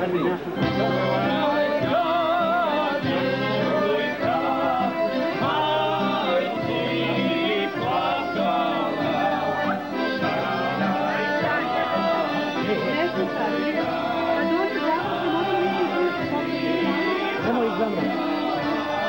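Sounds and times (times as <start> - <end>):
instrumental accompaniment: 0.0 - 19.0
voices singing folk song: 0.0 - 19.0.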